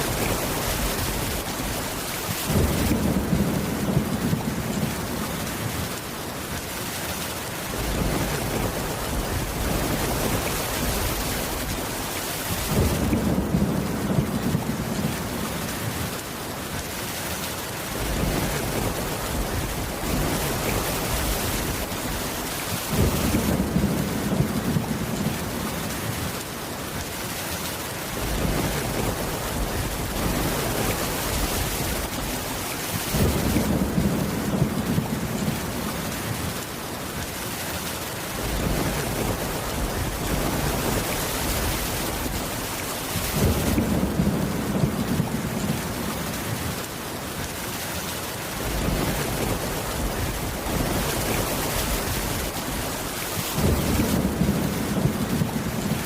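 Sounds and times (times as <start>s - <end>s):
thunder rumbling: 0.0s - 6.0s, 7.7s - 16.2s, 17.9s - 26.4s, 28.1s - 36.6s, 38.3s - 46.9s, 48.6s - 56.0s
steady rain: 0.0s - 56.0s.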